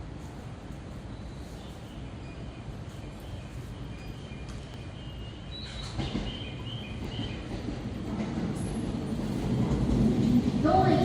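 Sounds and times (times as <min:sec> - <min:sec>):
train arriving: 0:00.0 - 0:11.0.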